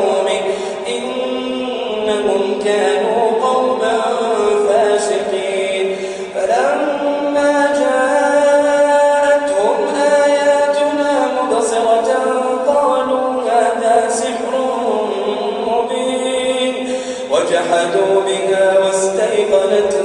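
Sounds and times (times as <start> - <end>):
man chanting melodically: 0.0 - 20.0.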